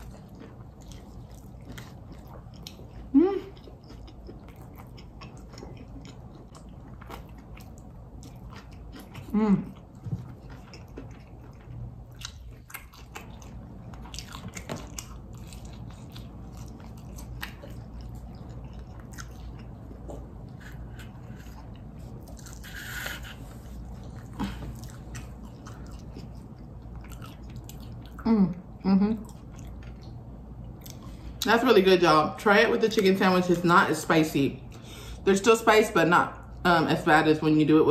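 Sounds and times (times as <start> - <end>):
person chewing crunchy food: 0.0 - 28.2, 29.2 - 31.4.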